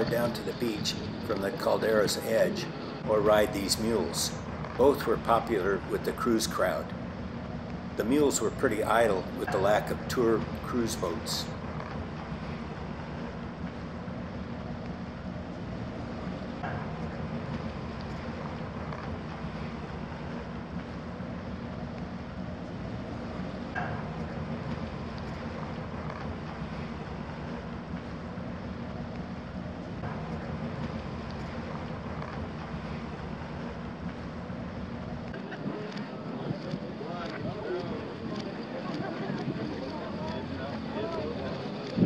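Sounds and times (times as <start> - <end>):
low constant hum: 0.0 - 42.0.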